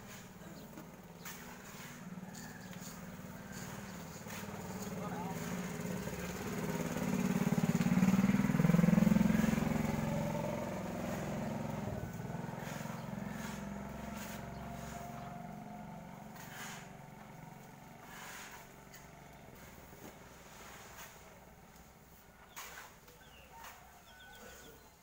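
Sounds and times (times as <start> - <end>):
motorbike riding past: 0.0 - 25.0.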